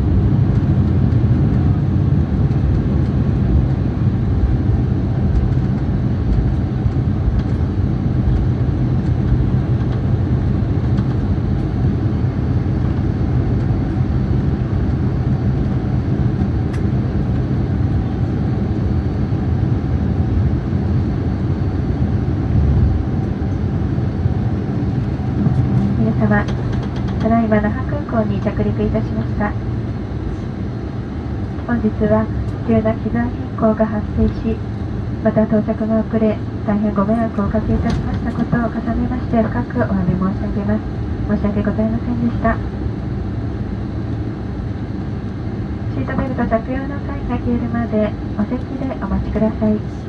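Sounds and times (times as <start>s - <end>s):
airliner cabin rumble: 0.0s - 50.0s
jet engine hum: 0.0s - 50.0s.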